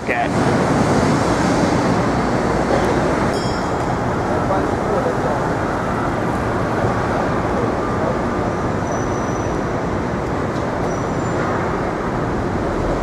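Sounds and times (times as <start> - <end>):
city street traffic roar: 0.0 - 13.0.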